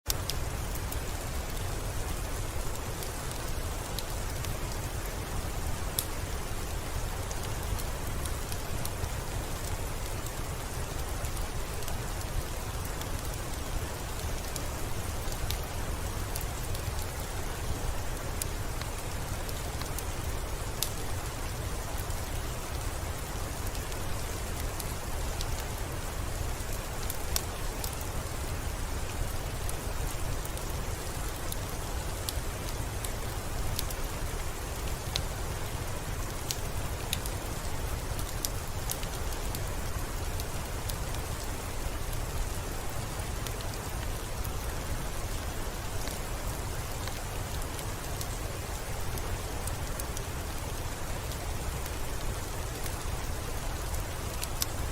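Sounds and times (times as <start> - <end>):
steady rain hiss: 0.0 - 54.9
sharp raindrop ticks: 0.1 - 54.9.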